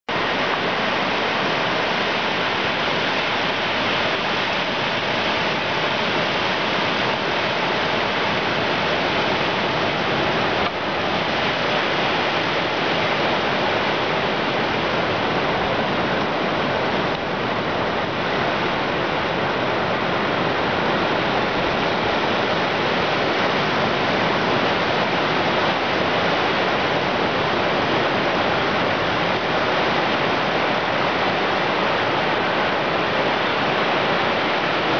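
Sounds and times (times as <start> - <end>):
ocean surf rushing: 0.1 - 34.9.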